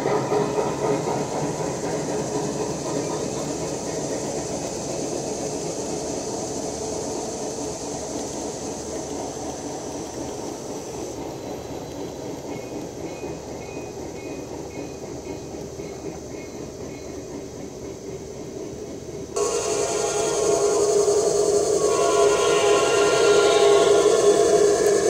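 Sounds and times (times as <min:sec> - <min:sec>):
model train wheels rumbling on track: 0:00.0 - 0:25.0.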